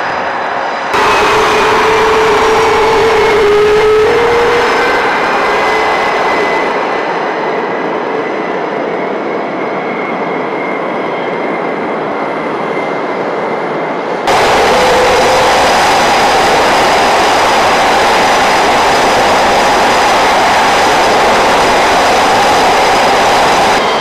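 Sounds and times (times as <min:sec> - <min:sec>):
jet engines idling with whine: 0:00.0 - 0:24.0.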